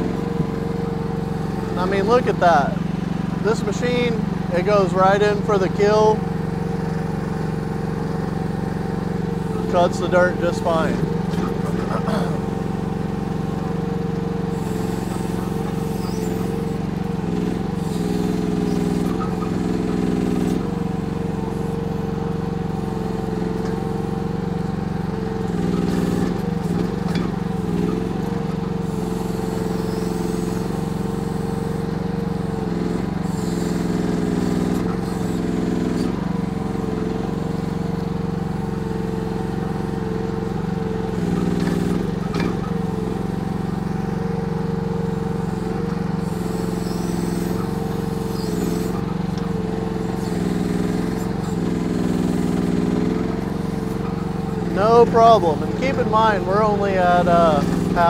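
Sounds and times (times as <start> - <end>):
excavator digging and dumping dirt: 0.0 - 58.0
excavator engine running: 0.0 - 58.0.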